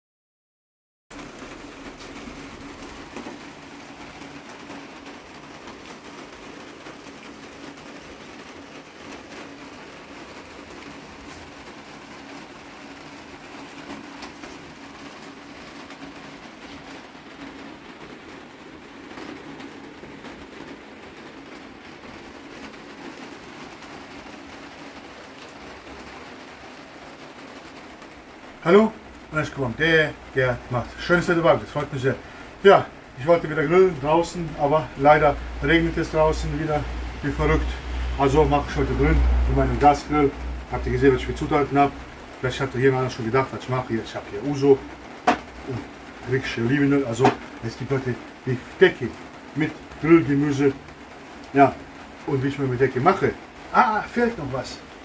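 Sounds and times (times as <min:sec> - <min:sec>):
heavy rain falling: 0:01.1 - 0:55.0.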